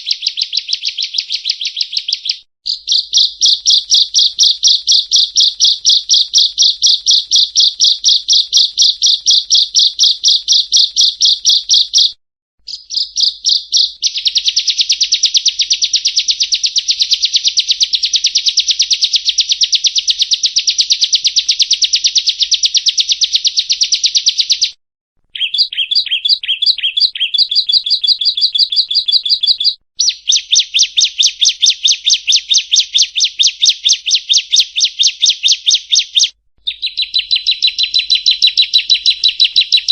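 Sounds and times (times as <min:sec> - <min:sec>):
bird singing rapid high notes: 0:00.0 - 0:39.9.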